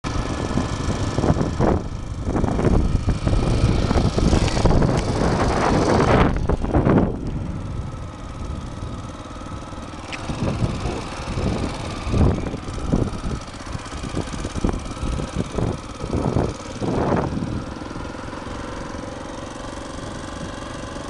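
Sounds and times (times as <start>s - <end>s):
vehicle engine running: 0.0s - 21.0s
wind noise on microphone: 0.1s - 18.2s.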